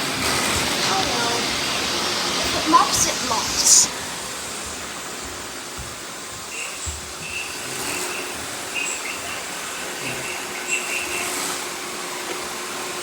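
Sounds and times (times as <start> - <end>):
robot vacuums whirring: 0.0 - 13.0.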